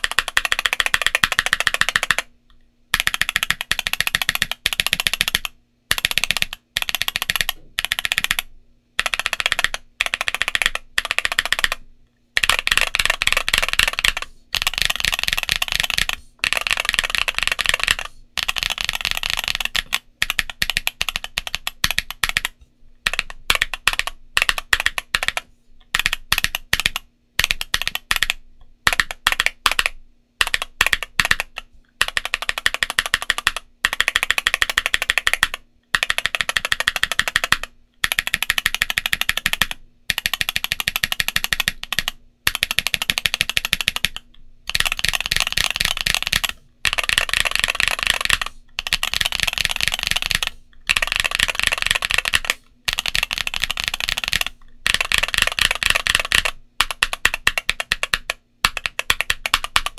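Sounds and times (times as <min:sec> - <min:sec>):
mechanical keyboard typing: 0:00.0 - 0:02.3, 0:02.9 - 0:11.8, 0:12.4 - 0:59.9.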